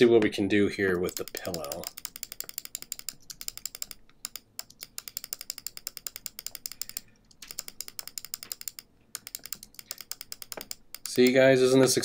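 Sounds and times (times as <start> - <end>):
mouse scroll wheel clicking: 1.0 - 11.4.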